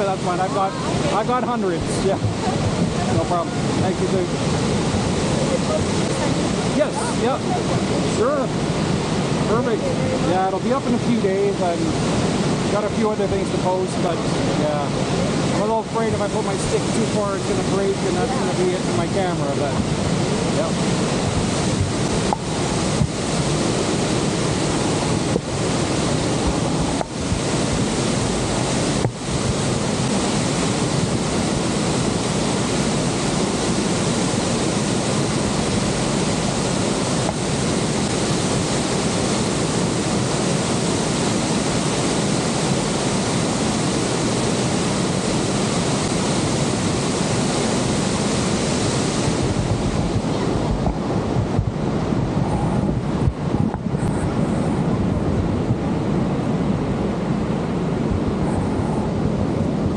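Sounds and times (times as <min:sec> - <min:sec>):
waterfall roaring: 0:00.0 - 0:59.9
wind on microphone: 0:00.0 - 0:59.9.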